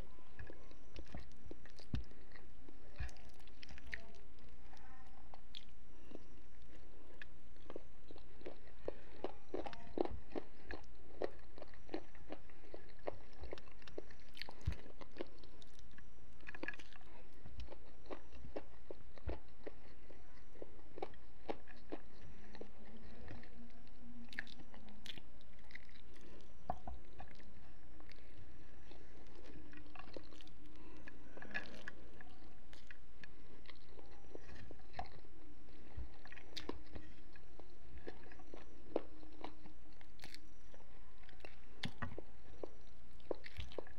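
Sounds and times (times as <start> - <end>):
low steady hum: 0.0 - 43.9
person chewing crunchy food: 0.0 - 43.9.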